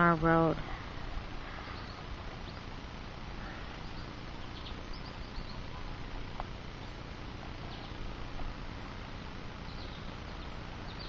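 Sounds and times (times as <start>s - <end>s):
road traffic hiss: 0.0s - 11.0s
small birds chirping: 0.0s - 11.0s.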